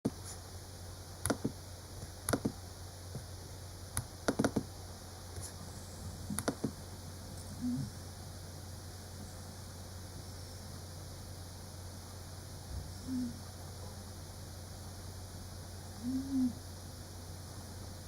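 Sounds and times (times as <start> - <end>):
steady low hum: 0.1 - 18.0.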